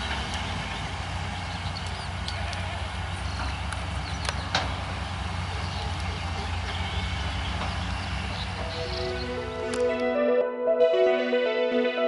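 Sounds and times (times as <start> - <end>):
excavator engine running: 0.0 - 10.2.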